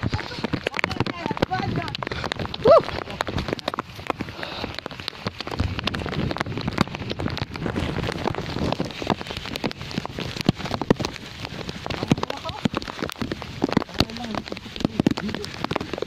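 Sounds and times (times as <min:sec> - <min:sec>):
heavy rain pouring: 0:00.0 - 0:16.0
raindrops tapping near microphone: 0:00.0 - 0:16.0.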